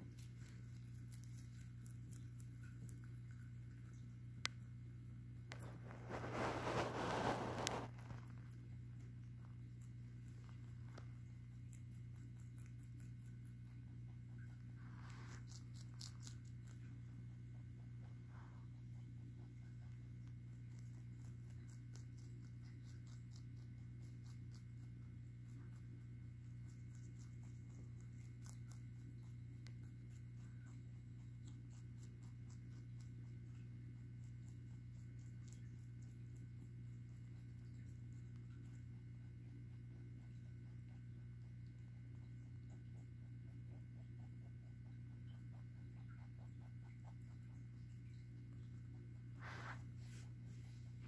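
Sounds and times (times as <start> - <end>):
rabbit chewing greens: 0.0 - 51.0
steady low hum: 0.0 - 51.0.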